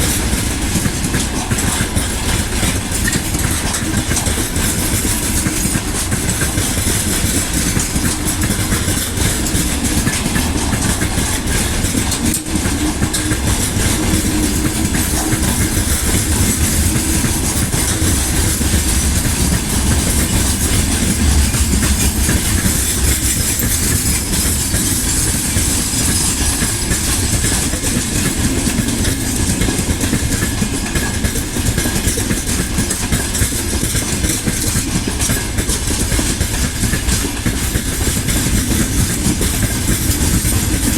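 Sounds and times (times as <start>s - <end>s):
train wheels on track: 0.0s - 40.9s.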